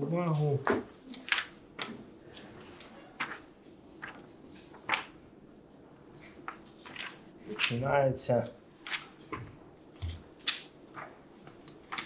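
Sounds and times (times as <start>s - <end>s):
paper sheets rustling: 1.0s - 5.1s, 6.2s - 12.0s.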